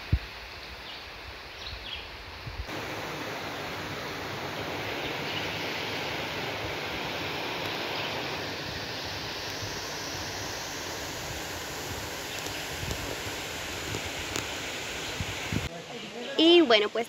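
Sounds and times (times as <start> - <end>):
waterfall rushing: 2.7 - 17.0.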